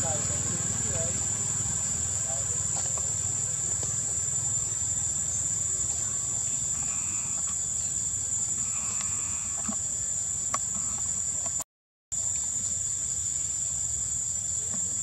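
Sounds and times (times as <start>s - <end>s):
insects droning: 0.0s - 11.6s, 12.2s - 15.0s.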